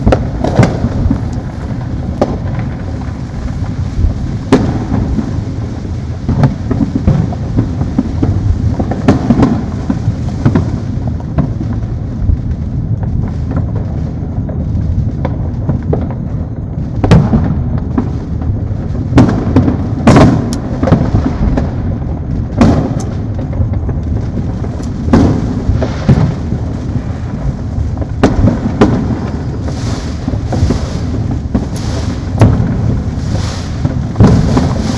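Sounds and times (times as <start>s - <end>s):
distant fireworks rumble: 0.0s - 34.9s
fireworks bangs and pops: 0.0s - 34.9s.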